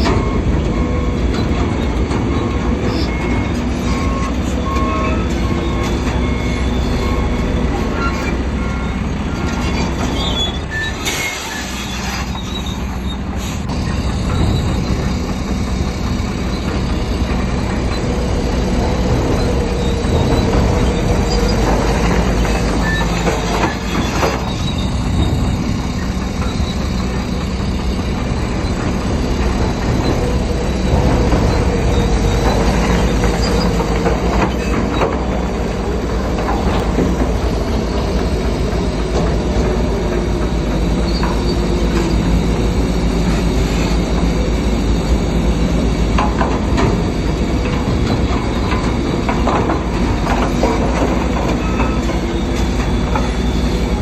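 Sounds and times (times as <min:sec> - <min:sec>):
diesel engine under load: 0:00.0 - 0:54.0
steel tracks clanking and squealing: 0:00.0 - 0:54.0.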